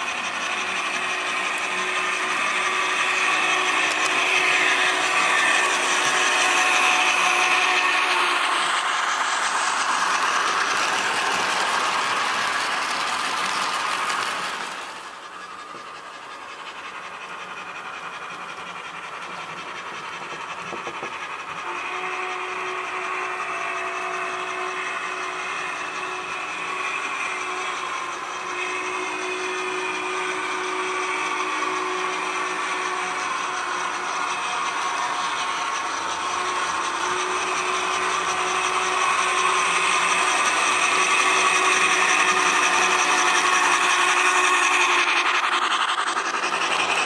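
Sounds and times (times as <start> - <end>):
model train cars rumbling: 0.0 - 47.0.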